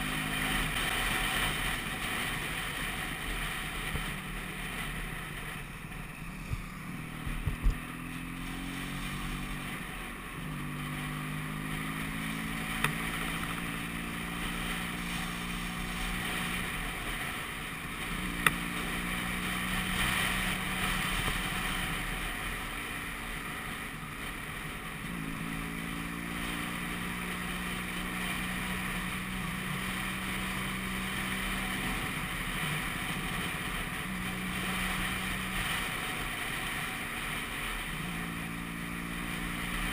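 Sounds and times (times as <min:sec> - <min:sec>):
road and wind rush: 0:00.0 - 0:39.9
scooter engine running: 0:00.0 - 0:39.9.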